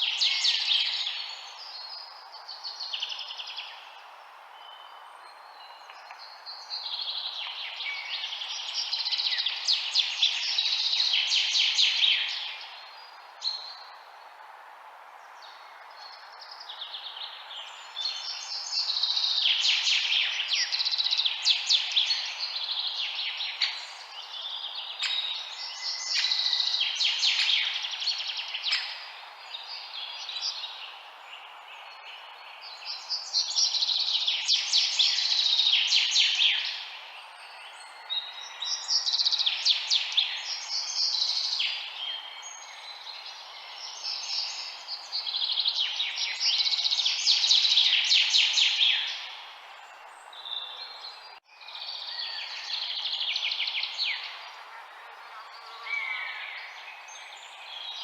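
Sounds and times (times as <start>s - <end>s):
songbirds chirping and trilling: 0.0s - 58.0s
steady background hiss: 0.0s - 58.0s.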